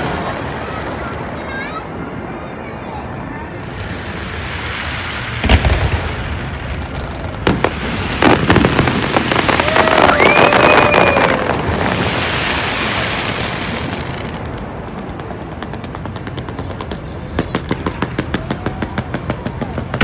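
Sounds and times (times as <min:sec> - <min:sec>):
firework bangs: 0:00.0 - 0:20.0
firework crackling: 0:00.0 - 0:20.0
firework boom: 0:03.8 - 0:20.0.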